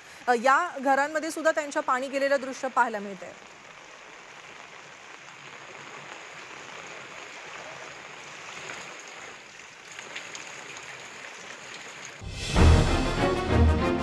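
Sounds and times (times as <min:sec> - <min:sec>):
rain and water hissing: 0:00.0 - 0:14.0.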